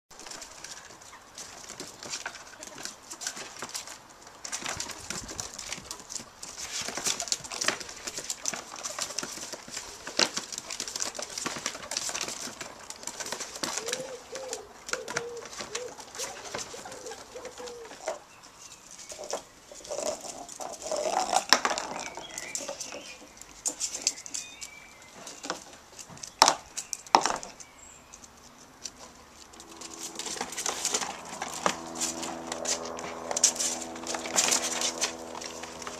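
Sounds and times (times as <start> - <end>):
claws scratching plastic: 0.2 - 27.4, 28.0 - 35.9.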